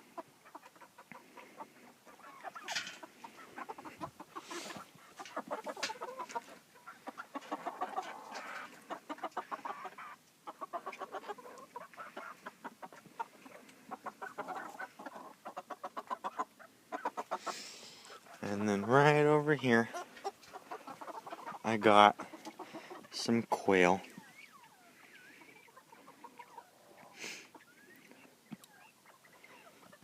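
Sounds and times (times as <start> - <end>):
chickens clucking and chirping: 0.0 - 30.0.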